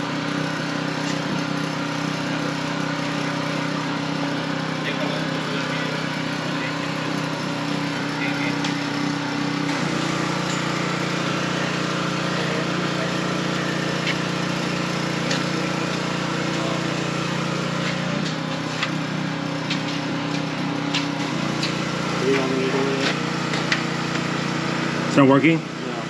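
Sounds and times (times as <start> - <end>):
small motor running: 0.0 - 26.0.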